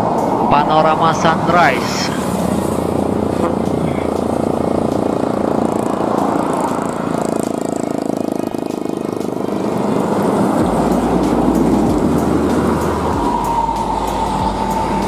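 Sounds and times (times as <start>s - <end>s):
truck driving past: 0.0s - 15.0s.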